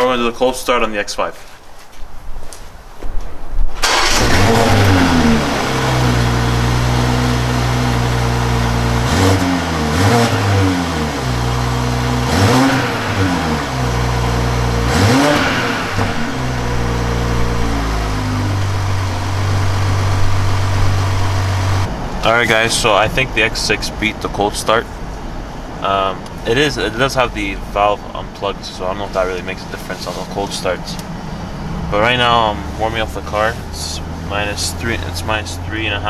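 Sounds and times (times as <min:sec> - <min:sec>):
car engine starting and revving: 0:03.8 - 0:36.0.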